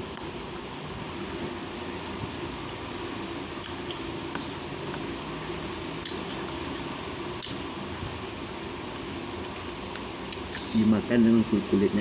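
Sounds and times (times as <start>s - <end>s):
electric fan hum: 0.0s - 12.0s.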